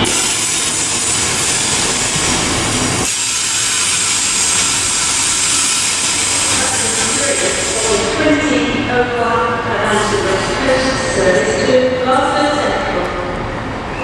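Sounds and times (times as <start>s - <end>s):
freight train wheels rushing on rail: 0.0s - 14.0s.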